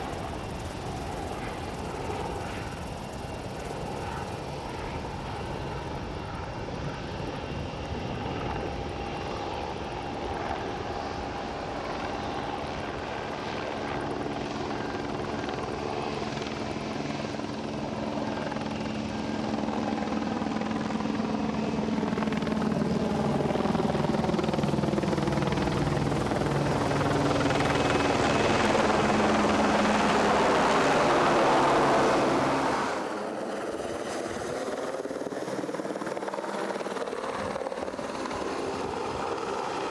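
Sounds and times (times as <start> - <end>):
jet engine hum: 0.0 - 39.9.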